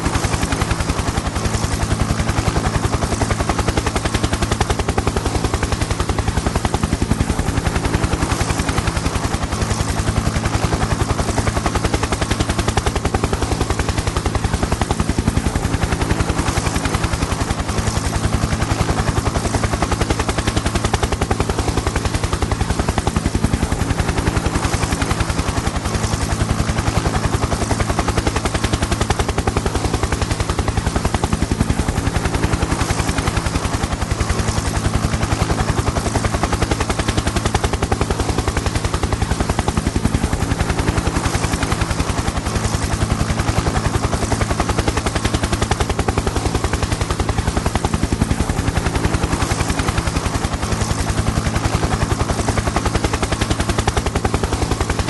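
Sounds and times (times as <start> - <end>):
helicopter engine hum: 0.0 - 55.0
helicopter rotor chop: 0.0 - 55.0.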